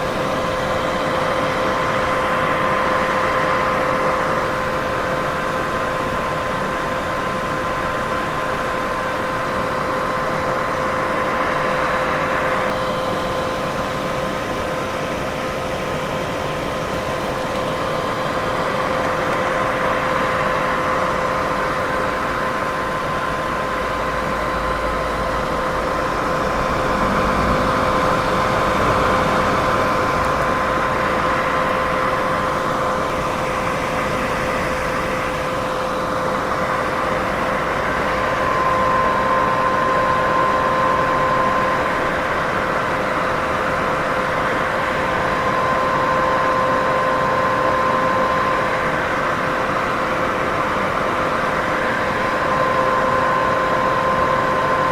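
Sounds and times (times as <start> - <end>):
steady hum: 0.0 - 54.9.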